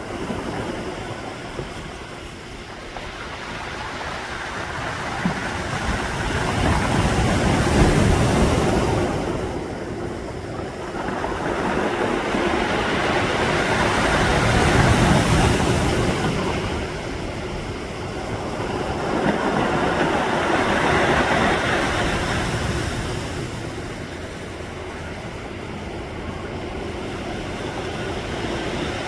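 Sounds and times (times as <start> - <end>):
sea waves washing ashore: 0.0 - 29.0.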